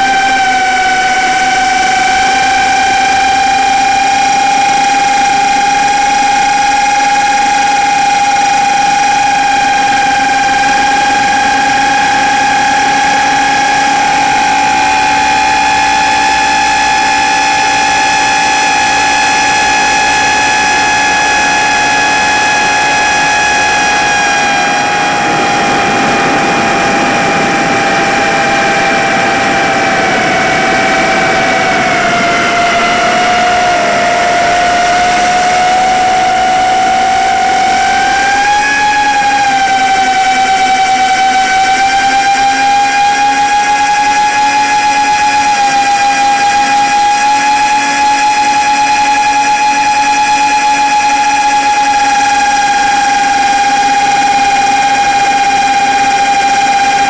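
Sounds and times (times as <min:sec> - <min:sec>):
drone motors whining: 0:00.0 - 0:57.0.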